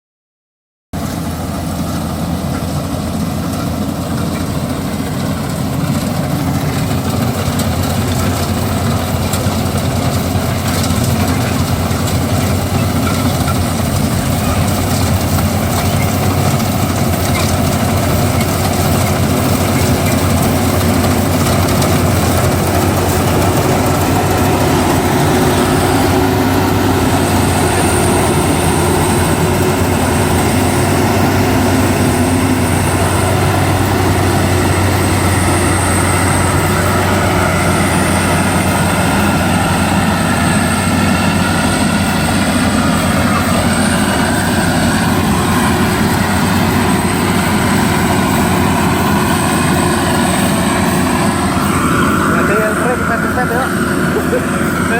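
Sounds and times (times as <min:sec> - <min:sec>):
rice harvester engine hum: 0:01.0 - 0:54.9.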